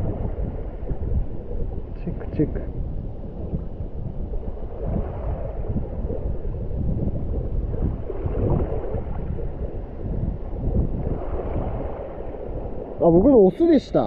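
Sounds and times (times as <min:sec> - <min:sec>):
rough sea surf: 0:00.0 - 0:14.0
wind buffeting microphone: 0:00.0 - 0:14.0.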